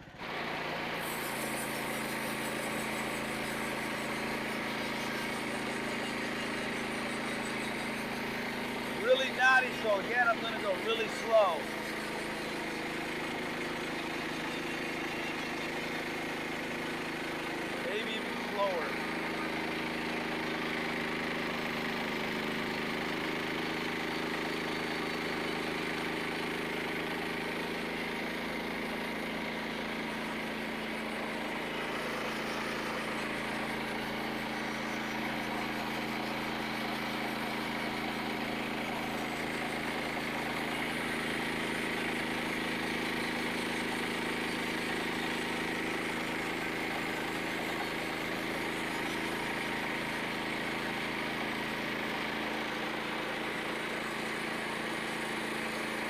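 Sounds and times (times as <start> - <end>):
sawmill engine running under load: 0.0 - 56.0.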